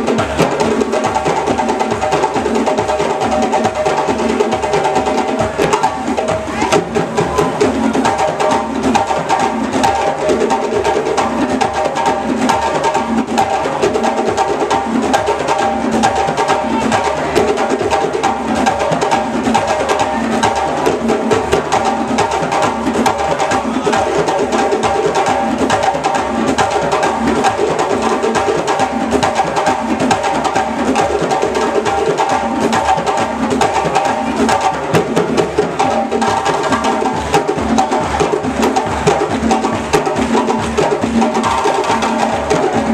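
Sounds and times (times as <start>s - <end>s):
djembe hand drums: 0.0s - 42.9s
larger drums: 0.0s - 42.9s.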